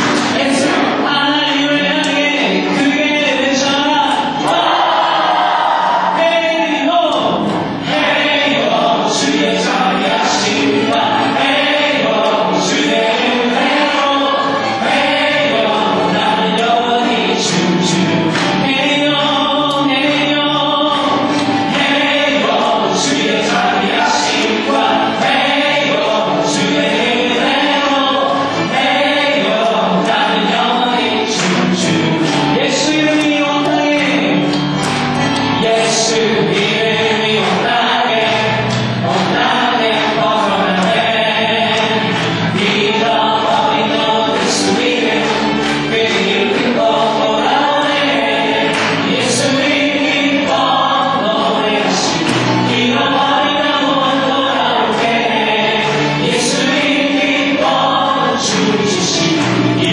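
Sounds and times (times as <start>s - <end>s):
group singing worship song: 0.0s - 59.9s.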